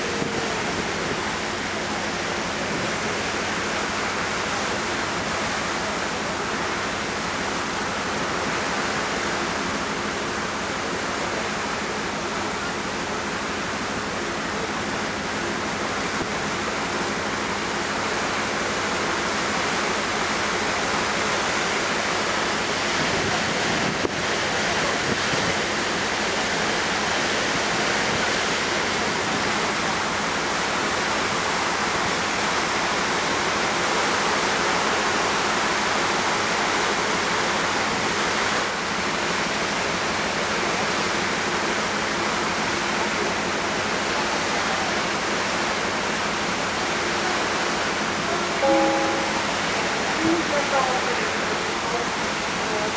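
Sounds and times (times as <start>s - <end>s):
wind: 0.0s - 52.9s.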